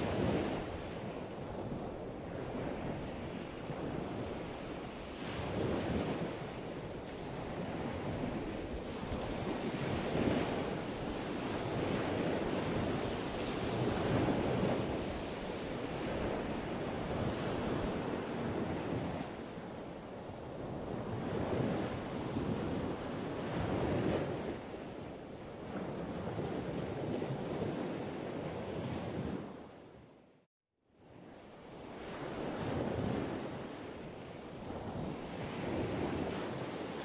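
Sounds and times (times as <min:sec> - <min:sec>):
wind buffeting microphone: 0:00.0 - 0:30.2, 0:31.2 - 0:37.0.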